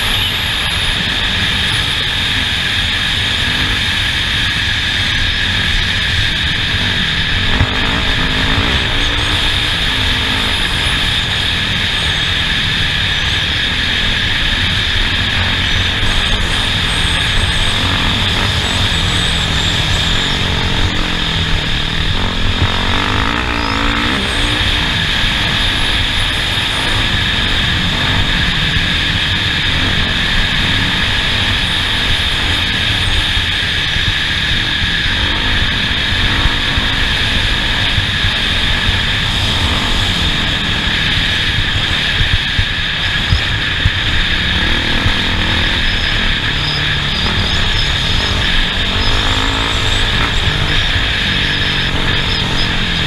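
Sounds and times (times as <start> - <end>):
race vehicle engine: 0.0 - 53.0
steady rushing noise: 0.0 - 53.0.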